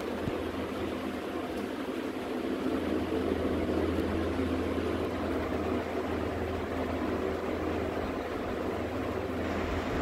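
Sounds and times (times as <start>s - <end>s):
machine hum with rushing noise: 0.0s - 10.0s.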